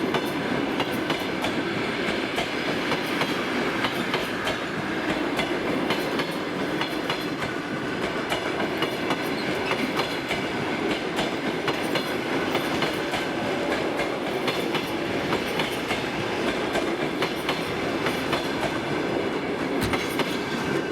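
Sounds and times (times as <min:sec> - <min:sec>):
train rumbling past: 0:00.0 - 0:20.9
train wheels clicking on rail joints: 0:00.0 - 0:20.9.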